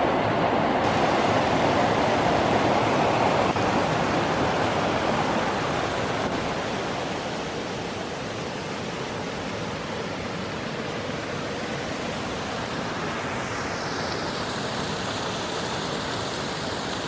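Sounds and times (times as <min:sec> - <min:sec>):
waterfall cascading over rocks: 0:00.0 - 0:17.0.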